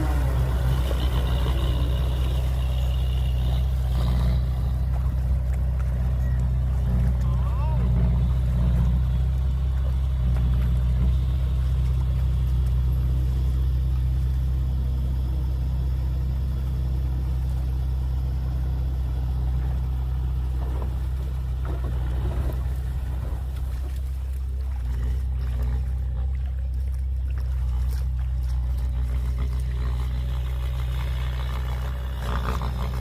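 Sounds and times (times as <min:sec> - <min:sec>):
heavy diesel engine rumbling: 0:00.0 - 0:33.0.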